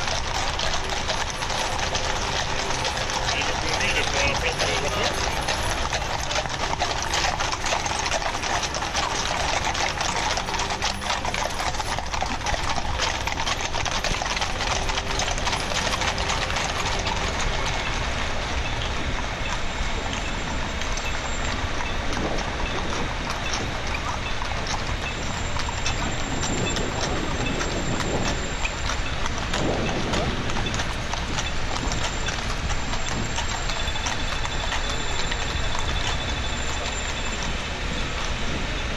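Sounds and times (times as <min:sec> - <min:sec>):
horse hooves clip-clopping on street: 0:00.0 - 0:38.9.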